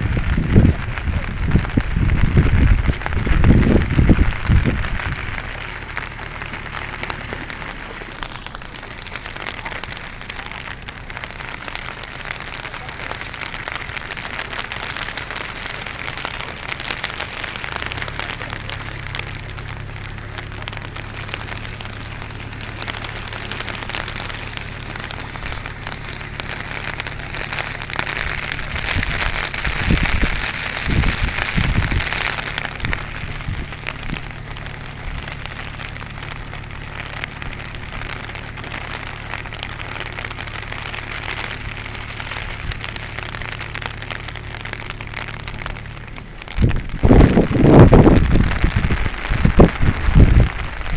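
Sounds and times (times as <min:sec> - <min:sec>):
heavy rain falling: 0:00.0 - 0:50.9
low thumps: 0:00.0 - 0:50.9.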